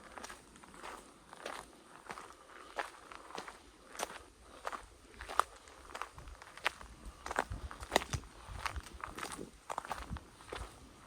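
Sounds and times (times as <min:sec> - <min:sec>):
footsteps outdoors: 0:00.0 - 0:11.0.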